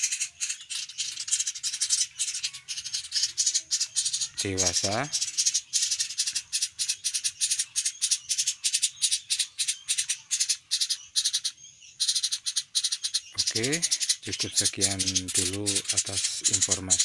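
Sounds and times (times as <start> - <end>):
nestlings begging rattling chatter: 0.0 - 17.0.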